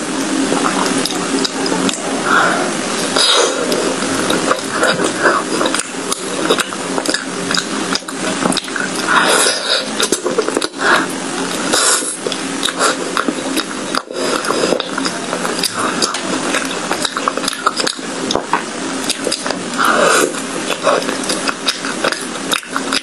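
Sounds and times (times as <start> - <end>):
wet chewing mouth sounds: 0.3 - 23.0.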